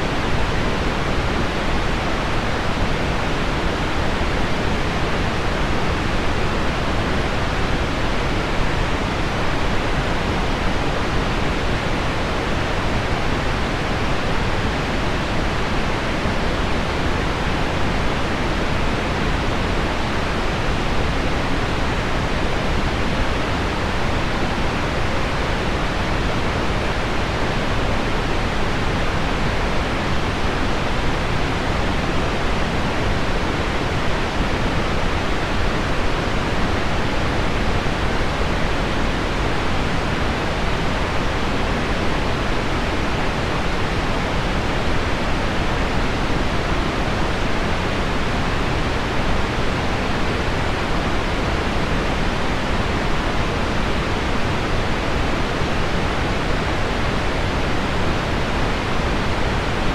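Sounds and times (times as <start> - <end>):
deep pink noise hiss: 0.0 - 59.9.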